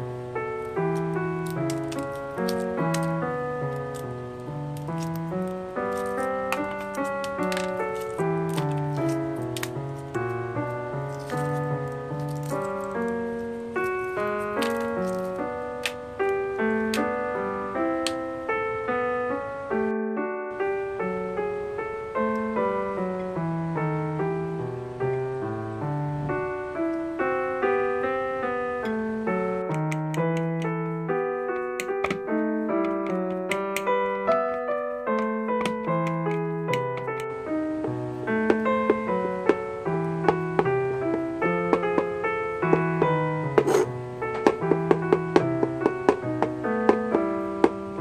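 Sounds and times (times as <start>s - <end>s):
gentle piano melody: 0.0s - 48.0s.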